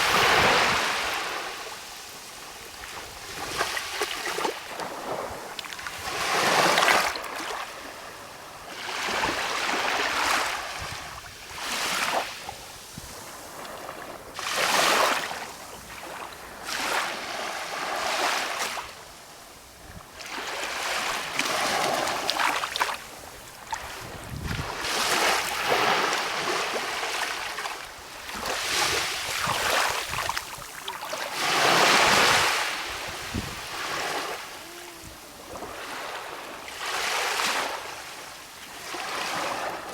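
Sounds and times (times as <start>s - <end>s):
calm sea waves washing in: 0.0s - 39.9s.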